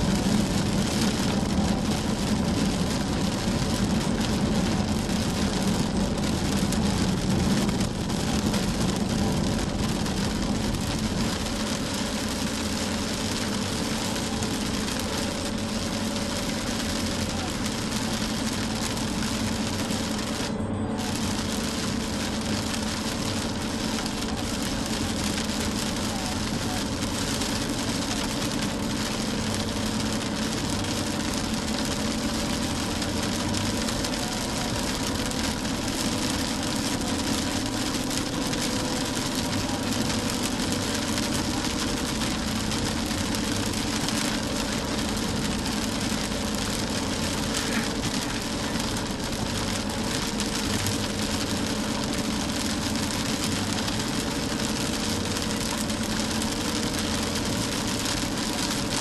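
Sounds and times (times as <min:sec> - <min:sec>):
car engine hum: 0:00.0 - 0:59.0
rain hiss: 0:00.0 - 0:59.0
tyre spray on wet road: 0:00.0 - 0:59.0.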